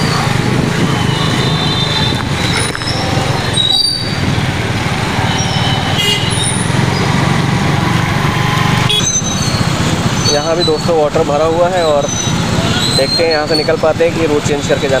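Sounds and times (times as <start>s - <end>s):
motorcycle engine running: 0.0s - 15.0s
road noise on wet street: 0.0s - 15.0s.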